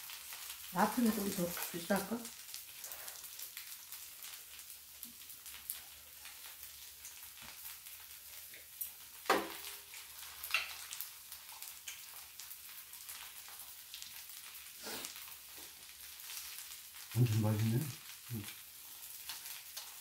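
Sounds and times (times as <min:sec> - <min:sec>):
batter sizzling on a griddle: 0:00.0 - 0:20.0.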